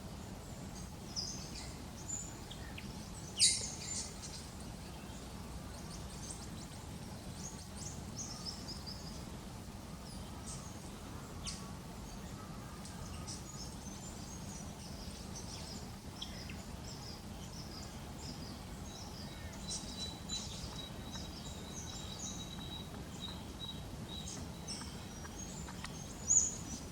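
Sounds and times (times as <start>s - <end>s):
low background noise: 0.0s - 26.9s
birds chirping: 0.3s - 9.3s, 9.9s - 26.9s.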